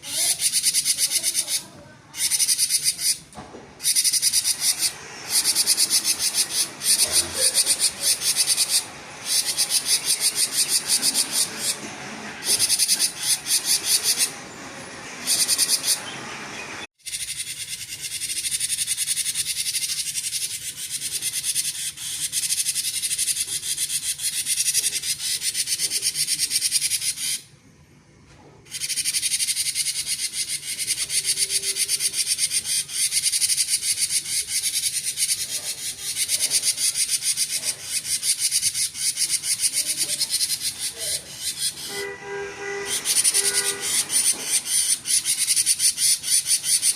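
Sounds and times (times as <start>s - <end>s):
bird rapid buzzing chatter: 0.0s - 27.4s, 28.7s - 46.9s.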